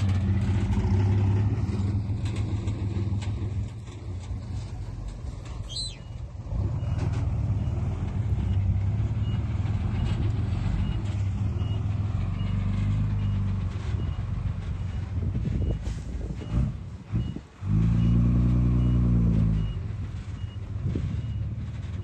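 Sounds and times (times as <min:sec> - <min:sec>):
heavy diesel engine rumbling: 0:00.0 - 0:22.0.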